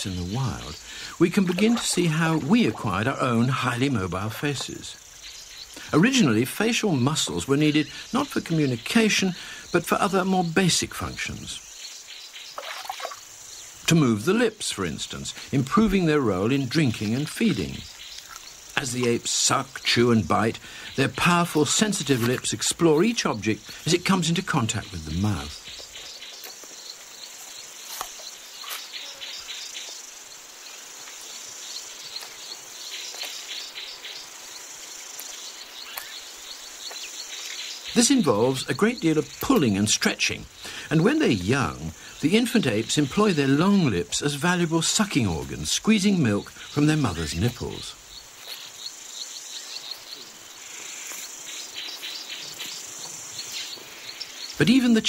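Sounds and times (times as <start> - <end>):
insect chorus chirring: 0.0 - 55.0.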